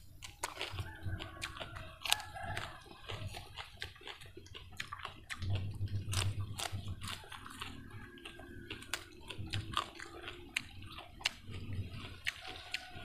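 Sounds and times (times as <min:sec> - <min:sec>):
person chewing with wet mouth noises: 0:00.0 - 0:13.0
mouth clicks and smacks: 0:00.2 - 0:07.8, 0:08.7 - 0:12.9.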